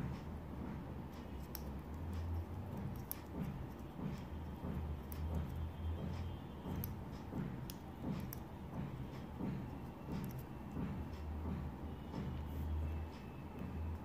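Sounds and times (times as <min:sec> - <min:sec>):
shuttle and thread ticking: 0:00.0 - 0:14.0.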